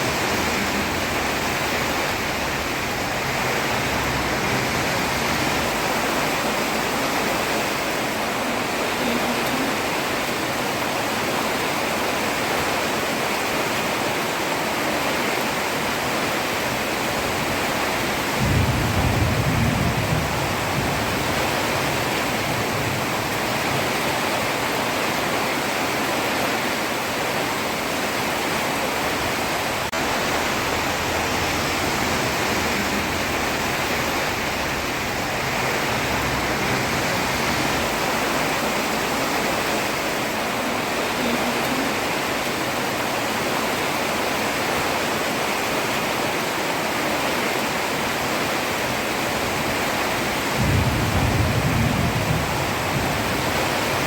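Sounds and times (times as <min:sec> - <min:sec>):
heavy rain on a road: 0:00.0 - 0:54.0.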